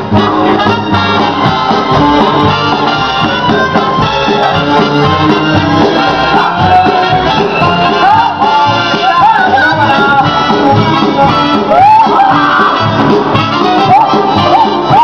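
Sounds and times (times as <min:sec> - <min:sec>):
upbeat show tune music: 0:00.0 - 0:15.0.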